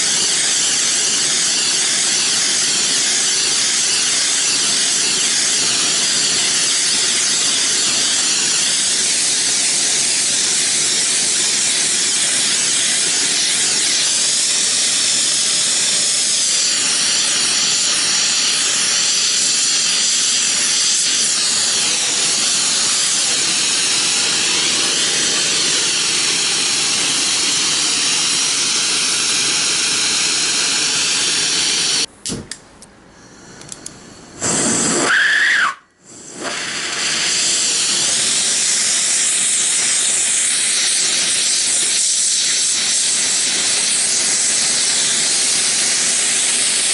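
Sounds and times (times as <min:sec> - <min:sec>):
workshop tool hissing and whining: 0:00.0 - 0:46.9.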